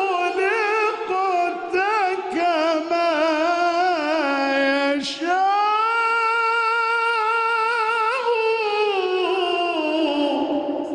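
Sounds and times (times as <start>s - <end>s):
man singing unaccompanied: 0.0s - 10.9s.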